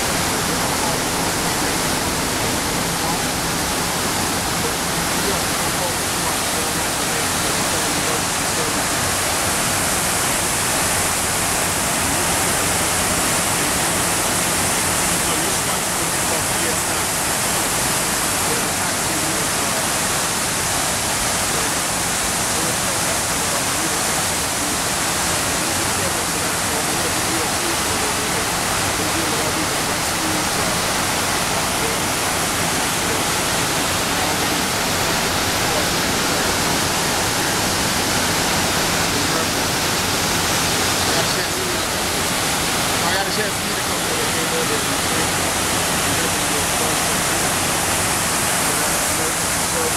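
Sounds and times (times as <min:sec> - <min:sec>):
waterfall splashing into basin: 0:00.0 - 0:49.9.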